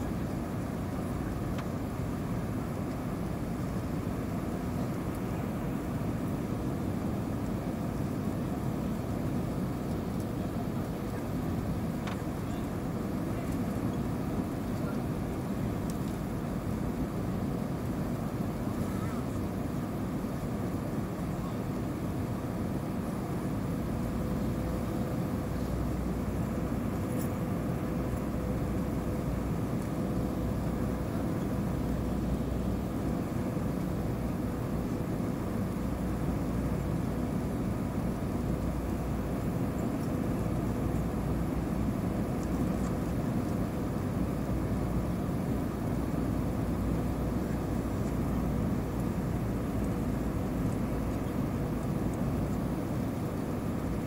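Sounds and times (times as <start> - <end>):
airflow over fuselage: 0.0 - 54.0
faint steady hum: 0.0 - 54.0
jet engine rumble in cabin: 0.0 - 54.0.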